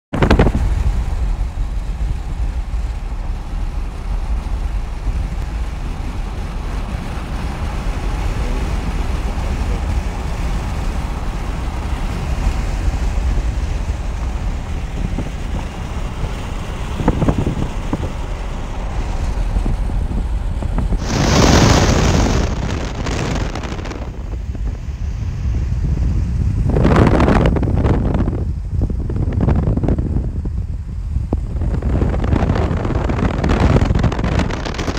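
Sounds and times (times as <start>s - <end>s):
car road noise: 0.1s - 34.9s
wind buffeting microphone: 0.1s - 34.9s.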